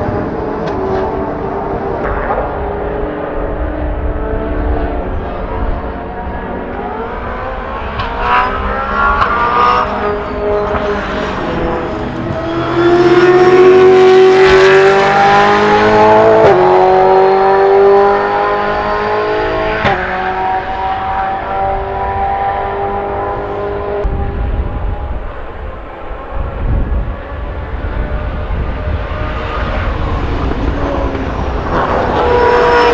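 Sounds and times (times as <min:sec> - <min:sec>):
race car engine accelerating past: 0:00.0 - 0:32.9.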